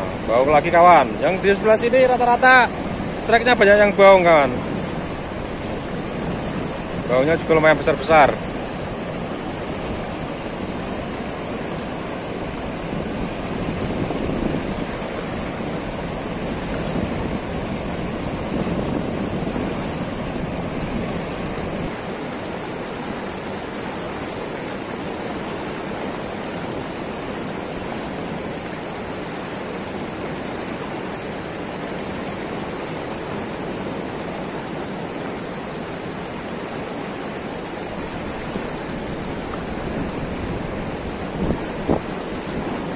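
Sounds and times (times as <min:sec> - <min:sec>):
river water rushing over weir: 0:00.0 - 0:42.9.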